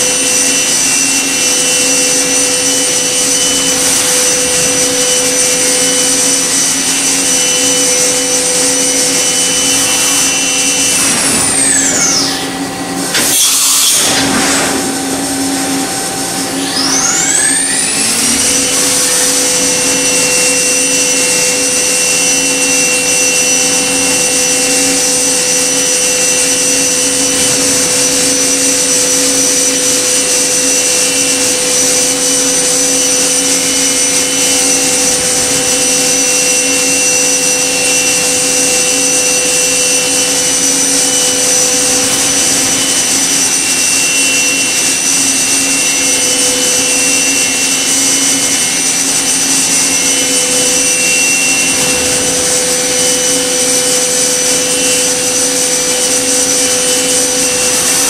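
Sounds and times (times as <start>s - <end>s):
high whining tones: 0.0s - 58.0s
machining center cutting metal: 0.0s - 58.0s.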